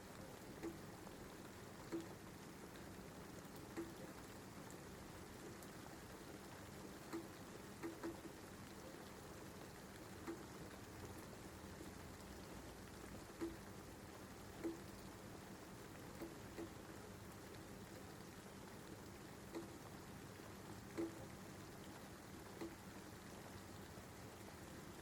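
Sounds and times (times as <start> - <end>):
light rain hissing: 0.0 - 25.0.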